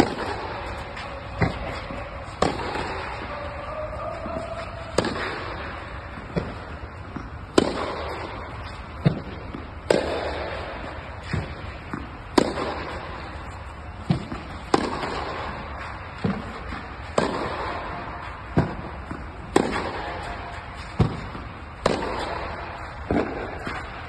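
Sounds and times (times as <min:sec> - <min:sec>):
tennis racket hits echoing: 0:00.0 - 0:24.0.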